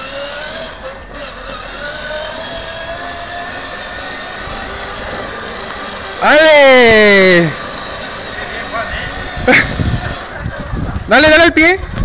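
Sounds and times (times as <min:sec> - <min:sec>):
toy car motor whine: 0:00.0 - 0:10.9.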